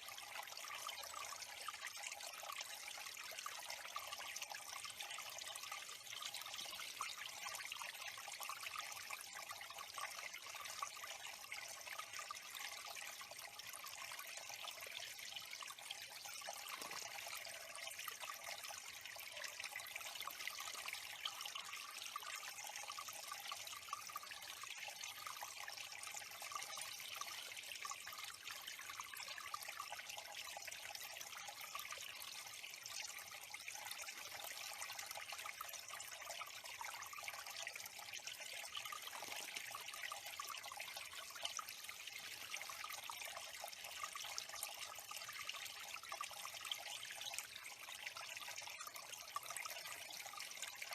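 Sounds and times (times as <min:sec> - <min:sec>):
water trickling into pond: 0:00.0 - 0:50.9.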